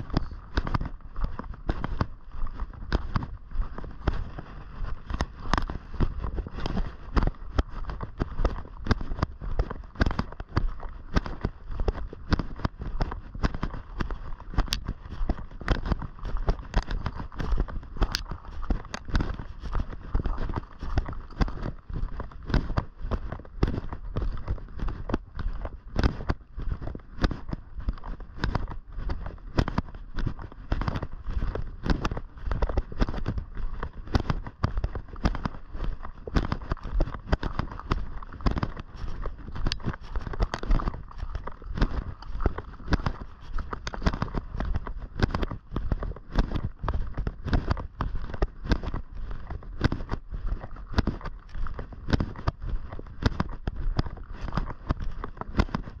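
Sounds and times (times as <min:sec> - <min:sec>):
footsteps crunching on path: 0:00.0 - 0:56.0.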